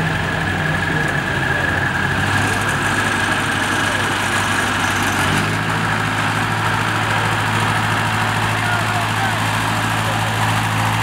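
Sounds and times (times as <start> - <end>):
tractor engine driving past: 0.0 - 11.0.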